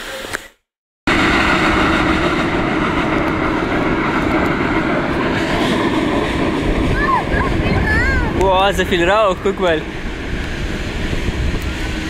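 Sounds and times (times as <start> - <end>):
rush and rumble of moving train: 1.1 - 12.0.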